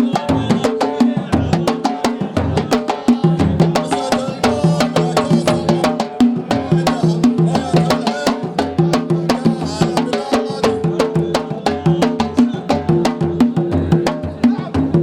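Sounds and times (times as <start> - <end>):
fast drum and percussion strikes: 0.0 - 15.0.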